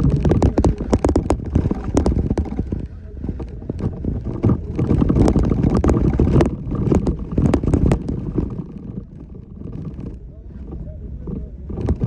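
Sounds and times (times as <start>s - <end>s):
knocks and rattles: 0.0s - 12.0s
off-road vehicle rumble: 0.0s - 12.0s.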